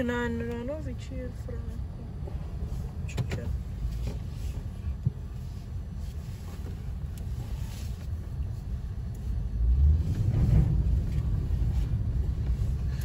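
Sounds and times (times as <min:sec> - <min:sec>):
car rumble on snowy road: 0:00.0 - 0:13.0.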